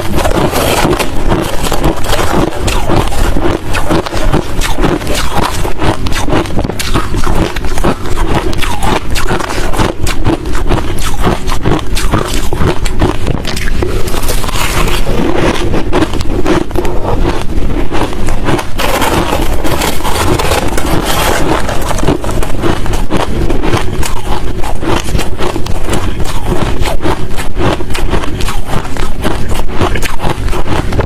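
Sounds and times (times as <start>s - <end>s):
ice crunching being chewed: 0.0s - 31.0s.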